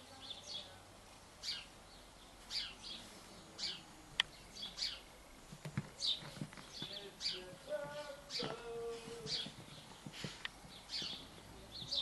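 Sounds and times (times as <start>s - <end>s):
bird chirping: 0.0s - 0.8s, 1.4s - 12.0s.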